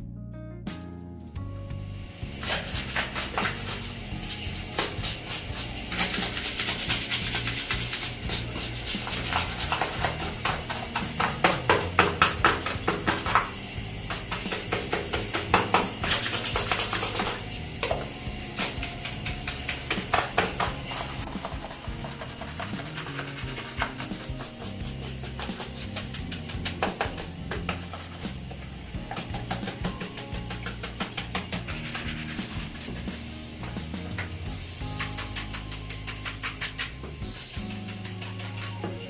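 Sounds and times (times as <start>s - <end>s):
background music: 0.0s - 39.0s
scrubbing mesh filter: 2.3s - 39.0s.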